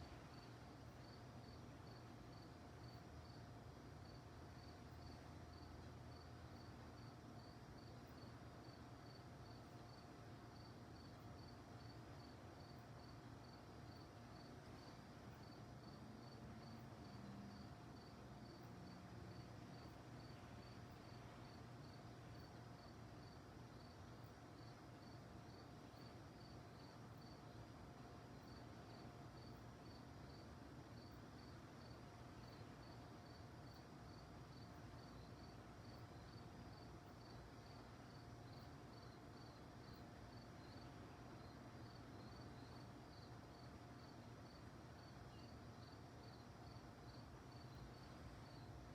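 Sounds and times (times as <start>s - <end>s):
crickets chirping: 0.0s - 48.9s
low steady hum: 0.0s - 48.9s.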